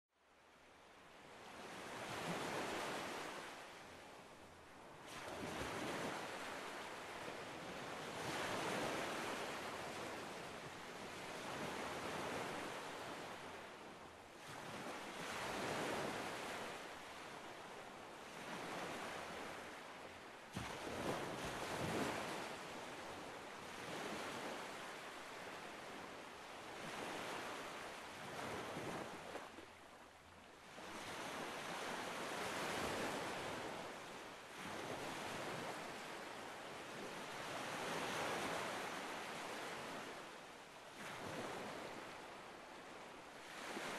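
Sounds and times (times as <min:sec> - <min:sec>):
sea waves washing ashore: 0:00.6 - 0:43.9.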